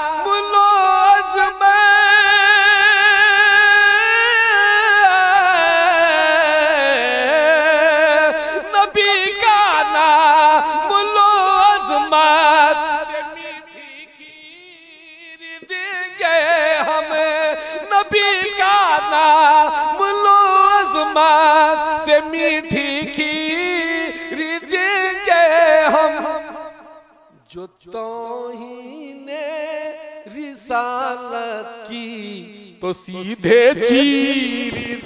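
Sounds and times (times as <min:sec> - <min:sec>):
man singing unaccompanied: 0:00.0 - 0:35.0.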